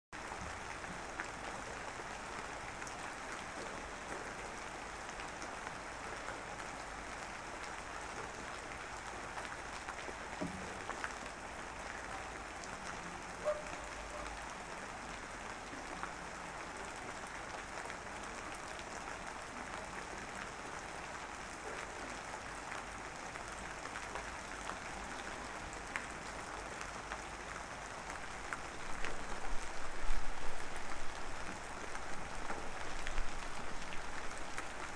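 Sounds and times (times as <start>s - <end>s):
light rain pattering: 0.2s - 34.9s.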